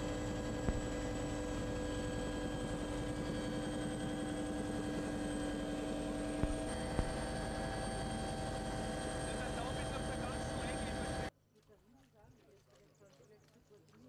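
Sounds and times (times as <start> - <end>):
engine mechanical drone: 0.0 - 11.3.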